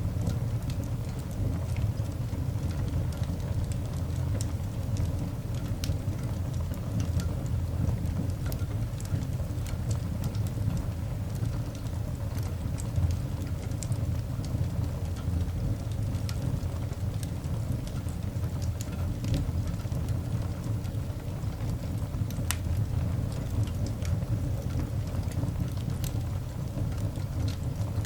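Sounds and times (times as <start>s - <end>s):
coal fire crackling and popping: 0.0s - 28.0s.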